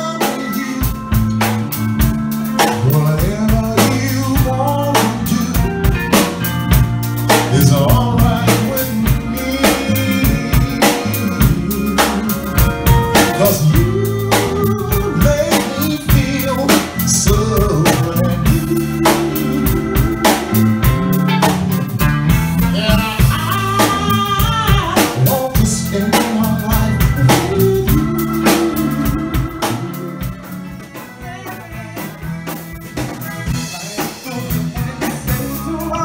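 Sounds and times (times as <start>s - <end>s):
drum kit beat: 0.0s - 36.0s
electric bass: 0.0s - 36.0s
electric guitar: 0.0s - 36.0s
keyboards: 0.0s - 36.0s.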